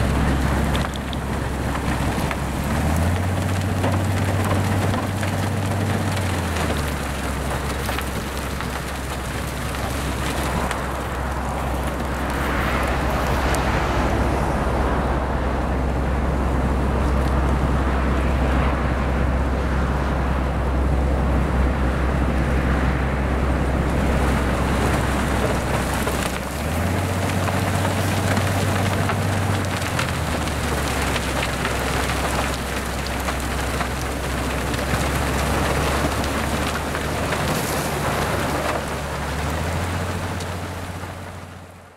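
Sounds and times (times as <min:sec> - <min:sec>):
low engine drone: 0:00.0 - 0:41.9.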